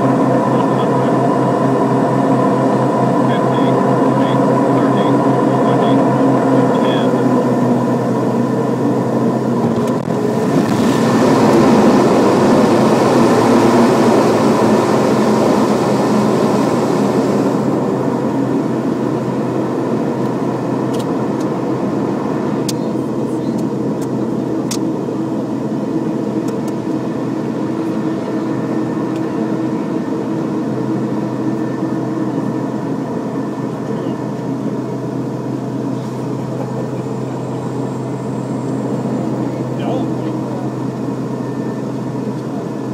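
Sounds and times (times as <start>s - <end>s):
turboprop engines running: 0.0s - 42.9s.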